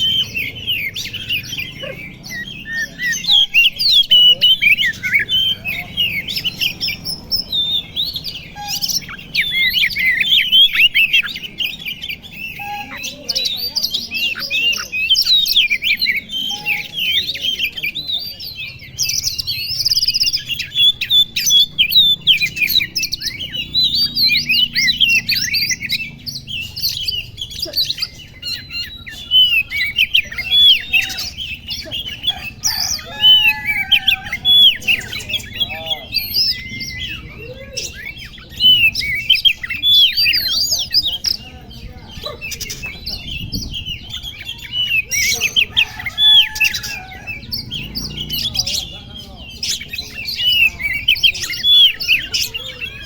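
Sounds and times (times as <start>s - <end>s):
bird singing chirps and whistles: 0.0s - 53.0s.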